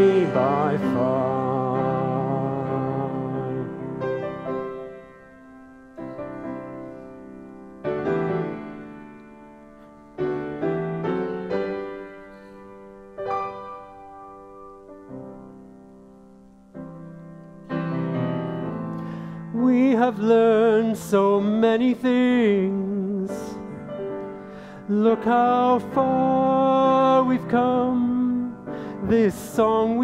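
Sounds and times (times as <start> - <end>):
piano chords ringing: 0.0 - 30.0.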